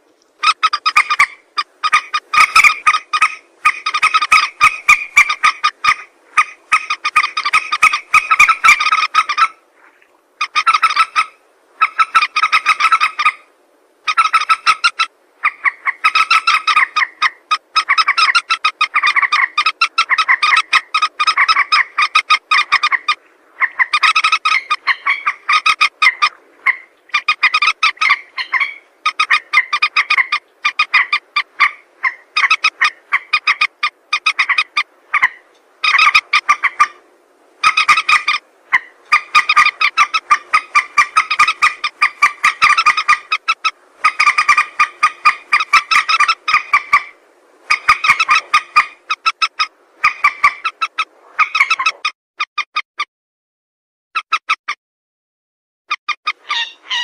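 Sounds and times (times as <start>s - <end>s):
moorhen rattling clucks: 0.0s - 9.6s, 10.4s - 52.8s, 54.2s - 54.7s, 56.0s - 57.0s.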